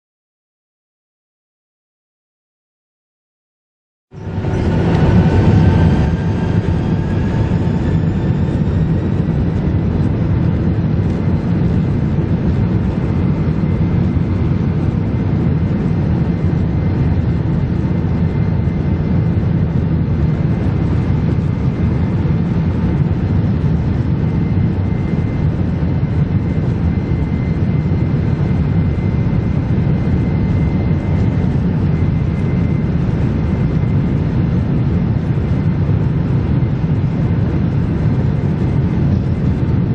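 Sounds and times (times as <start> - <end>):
jet engine whine rising: 4.1 - 39.9
jet engines rumbling: 4.1 - 39.9.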